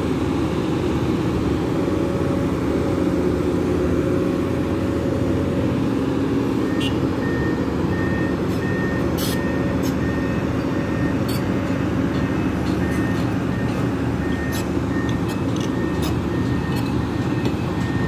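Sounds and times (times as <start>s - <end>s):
heavy vehicle rumbling: 0.0s - 18.0s.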